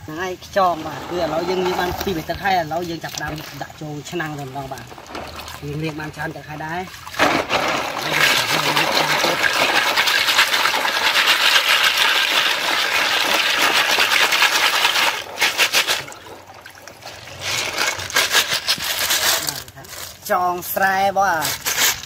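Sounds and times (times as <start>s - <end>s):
water sloshing: 0.2s - 20.3s
snail shells clattering: 0.6s - 6.4s, 7.2s - 16.2s, 17.2s - 20.7s.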